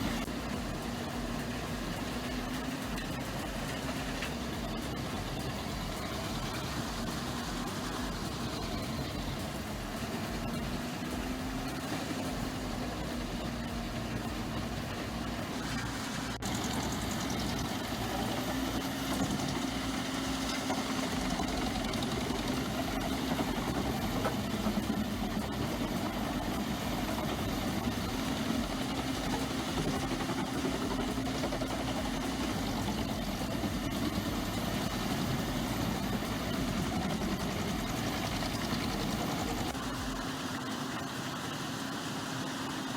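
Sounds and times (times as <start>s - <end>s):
heavy machine engine running: 0.0s - 42.9s.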